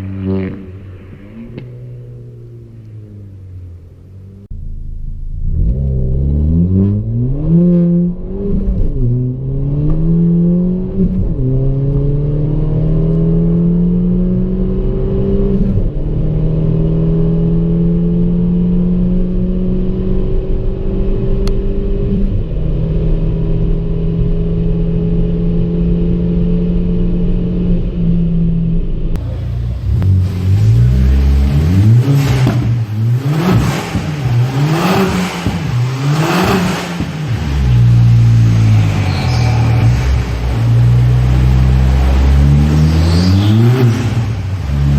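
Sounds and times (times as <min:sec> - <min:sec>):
car engine and exhaust accelerating: 0:00.0 - 0:44.9.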